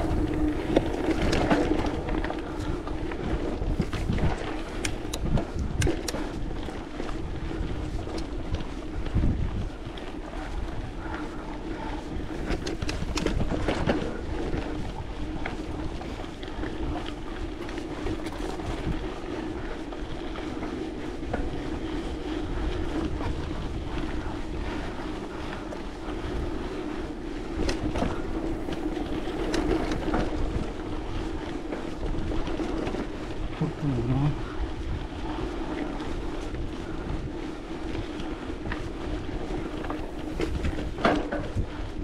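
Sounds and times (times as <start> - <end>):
steady low hum: 0.0 - 41.0
wind buffeting microphone: 0.0 - 42.0.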